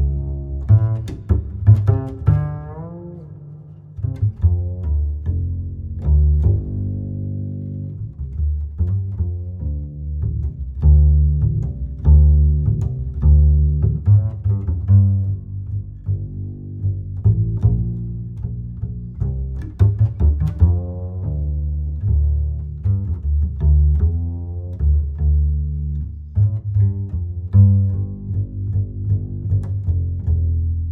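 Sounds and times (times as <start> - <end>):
low bowed and plucked strings: 0.0 - 30.9.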